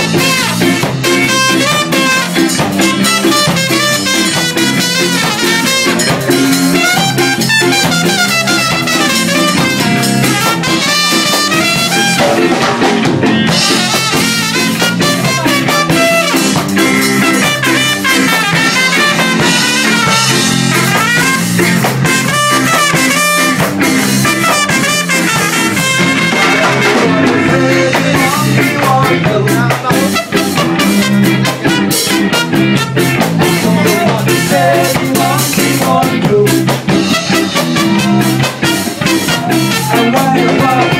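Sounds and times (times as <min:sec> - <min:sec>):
live ska band playing: 0:00.0 - 0:40.9
trumpet lead: 0:00.0 - 0:40.9.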